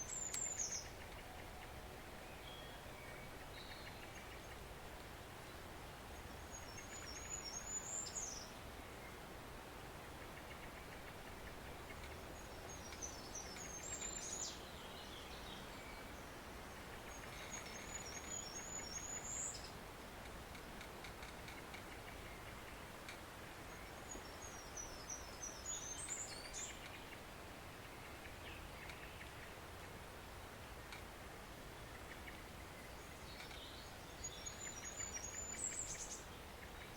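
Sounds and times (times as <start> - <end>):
forest stream running: 0.0 - 36.9
songbird singing: 0.0 - 36.9.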